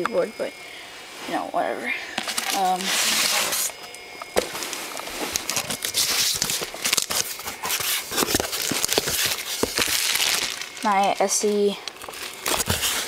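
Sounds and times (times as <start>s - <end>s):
crinkling and rustling: 2.2s - 13.0s.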